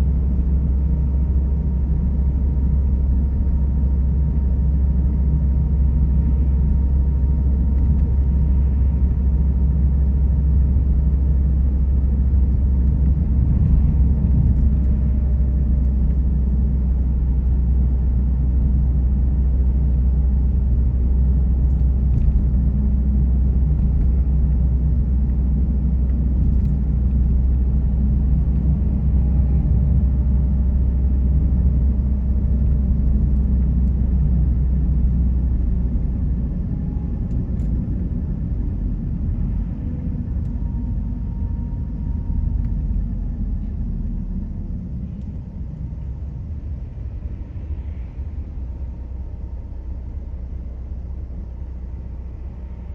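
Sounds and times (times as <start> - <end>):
car driving on road: 0.0 - 52.9.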